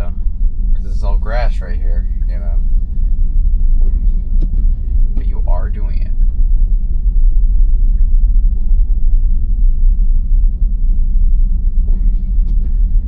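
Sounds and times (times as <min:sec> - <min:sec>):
tyre and road noise in car: 0:00.0 - 0:13.0.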